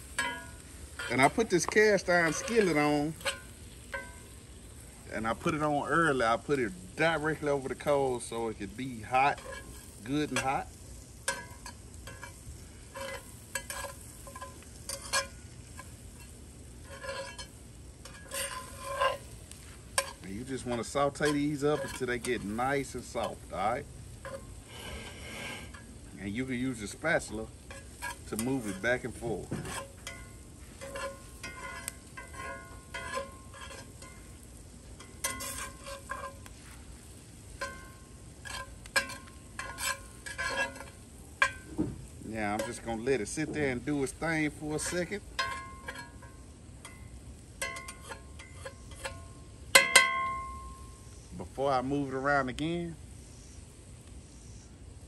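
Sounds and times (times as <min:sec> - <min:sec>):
metal spatula scraping pan: 0:00.0 - 0:04.6, 0:05.2 - 0:50.9
vegetables sizzling in a skillet: 0:00.0 - 0:55.0.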